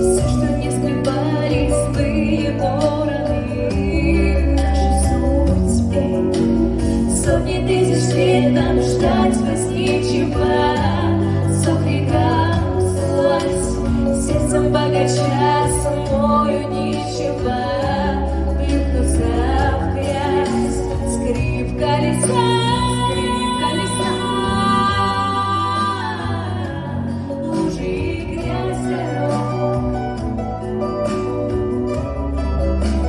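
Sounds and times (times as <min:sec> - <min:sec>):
girls singing a pop duet: 0:00.0 - 0:32.0
instrumental accompaniment: 0:00.0 - 0:33.0.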